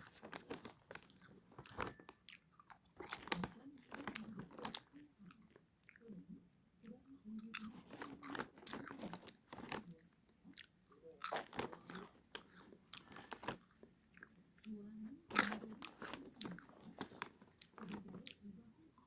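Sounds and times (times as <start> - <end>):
popcorn crunching while chewed: 0.0 - 19.0.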